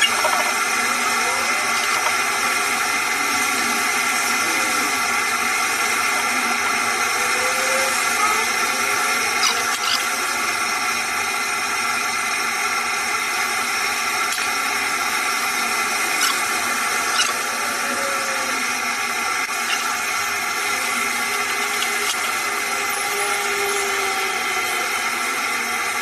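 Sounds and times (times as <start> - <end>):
small motor whining: 0.0 - 26.0.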